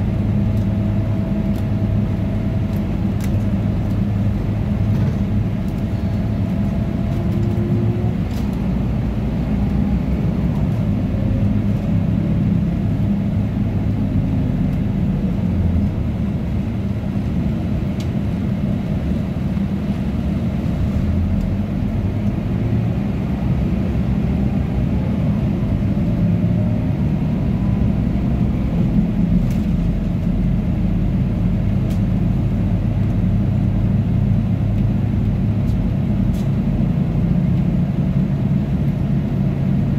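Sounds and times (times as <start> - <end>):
air conditioning noise: 0.0 - 39.9
bus engine rumble: 0.0 - 39.9.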